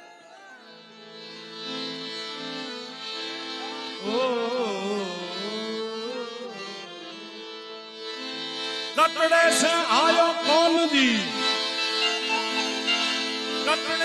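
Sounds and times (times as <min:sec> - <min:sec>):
harmonium chords: 0:00.0 - 0:14.0.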